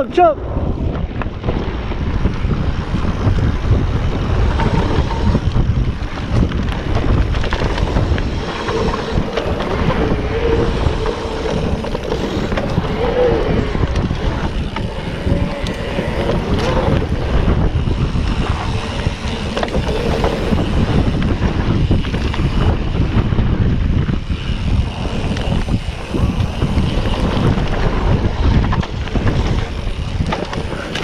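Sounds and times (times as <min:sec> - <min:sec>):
bike tyres on dirt trail: 0:00.0 - 0:31.0
wind buffeting microphone: 0:00.0 - 0:31.0.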